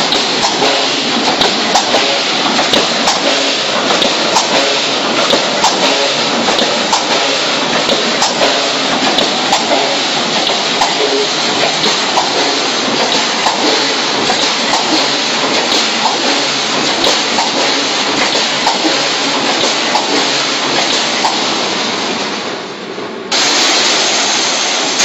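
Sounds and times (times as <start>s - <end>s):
welding machine clattering: 0.0s - 22.4s, 23.3s - 25.0s.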